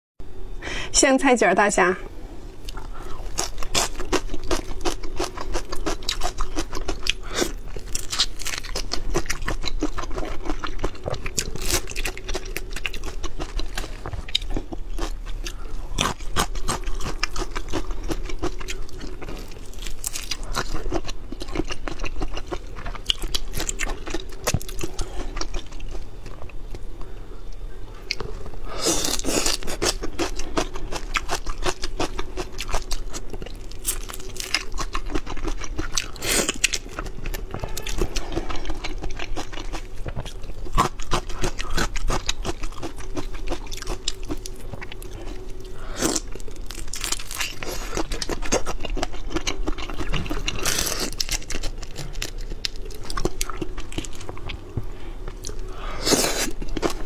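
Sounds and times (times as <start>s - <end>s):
crunching and chewing: 2.6s - 57.0s.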